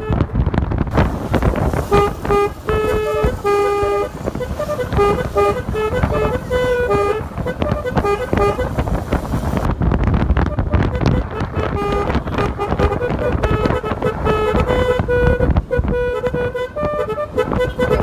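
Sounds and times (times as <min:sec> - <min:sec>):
wind noise on microphone: 0:00.0 - 0:18.0
musical motorcycle horn tune: 0:00.9 - 0:09.7, 0:10.5 - 0:18.0.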